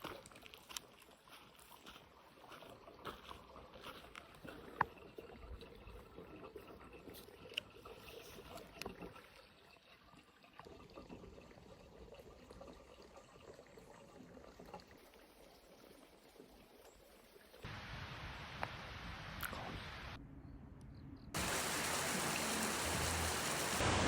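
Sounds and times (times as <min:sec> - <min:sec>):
spring water trickling: 0:00.0 - 0:17.7, 0:21.4 - 0:24.0.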